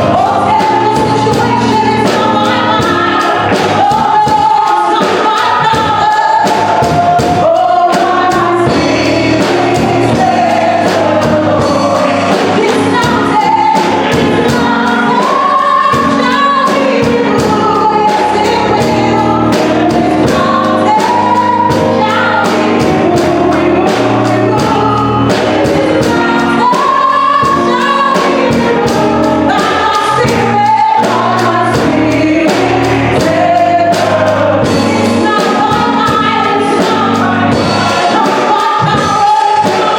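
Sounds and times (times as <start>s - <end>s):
congregation singing worship song: 0.0s - 39.9s
live band playing: 0.0s - 39.9s.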